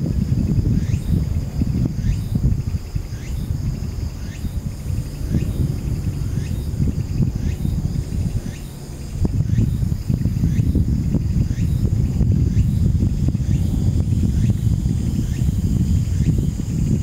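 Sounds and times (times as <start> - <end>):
insects trilling: 0.0 - 17.0
low uneven rumble: 0.2 - 17.0.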